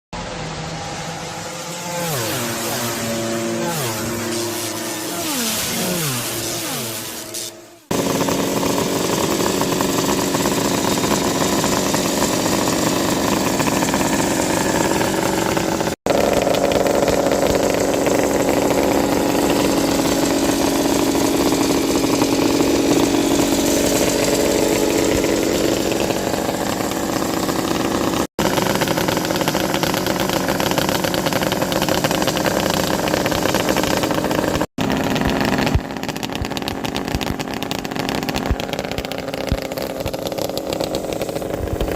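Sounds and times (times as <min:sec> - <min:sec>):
motorcycle engine idling: 0:02.3 - 0:41.9.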